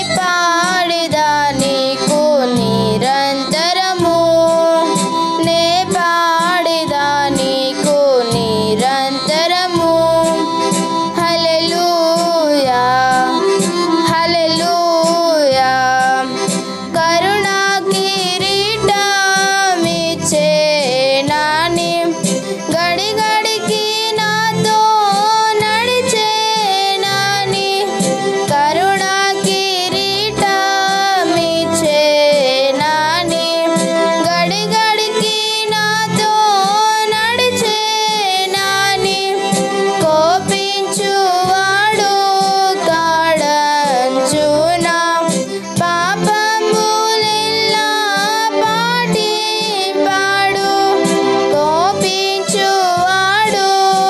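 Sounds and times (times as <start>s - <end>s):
girl singing: 0.0s - 54.0s.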